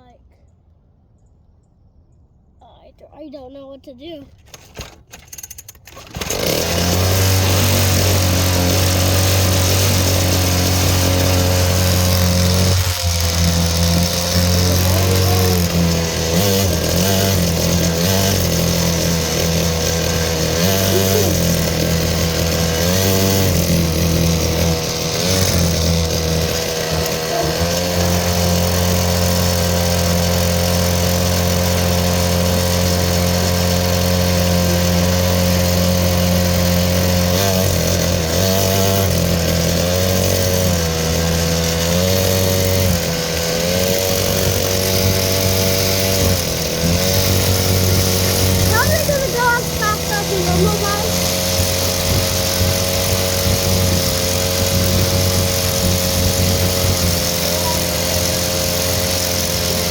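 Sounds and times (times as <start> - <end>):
dirt bike engine revving: 5.9 - 59.9.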